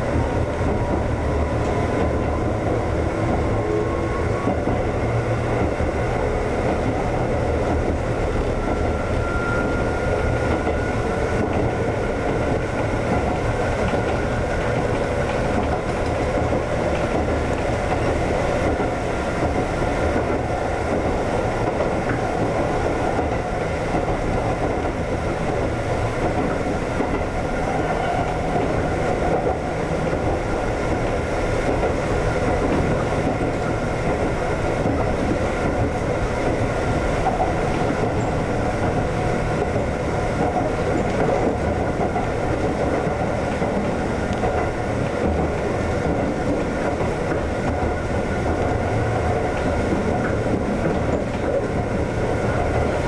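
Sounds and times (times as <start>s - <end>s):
electric train running: 0.0s - 53.0s.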